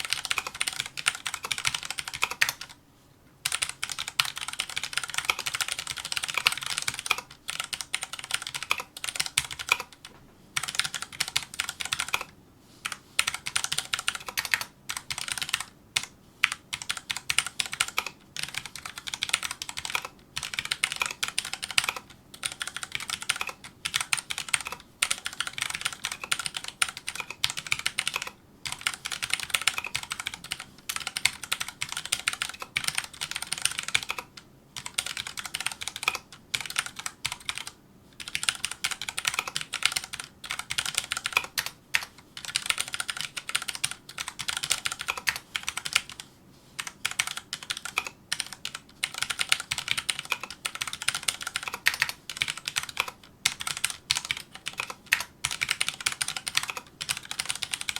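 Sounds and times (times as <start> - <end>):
fast typing on mechanical keyboard: 0.0 - 2.8, 3.4 - 57.9.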